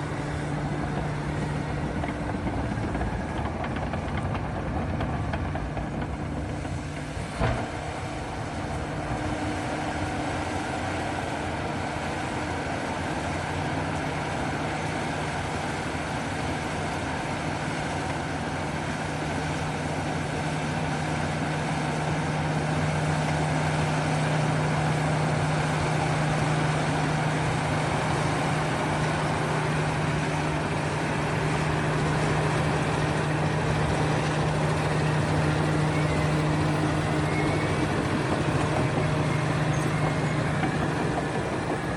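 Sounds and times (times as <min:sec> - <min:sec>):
heavy machinery engine humming: 0:00.0 - 0:41.9.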